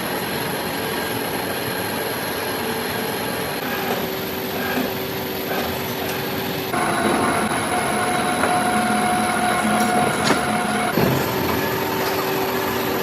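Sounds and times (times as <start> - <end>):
high machine whine: 0.0 - 13.0
machine tool running: 1.0 - 13.0.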